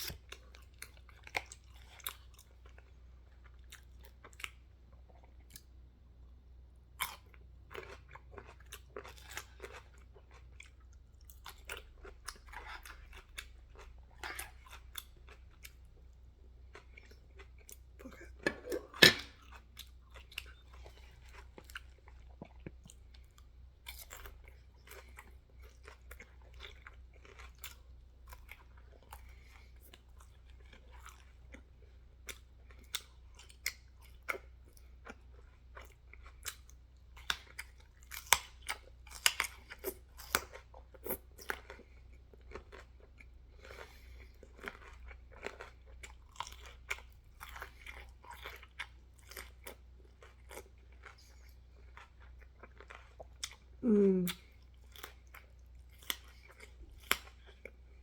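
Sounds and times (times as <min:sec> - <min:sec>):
crunchy food chewing: 0:07.0 - 0:58.0.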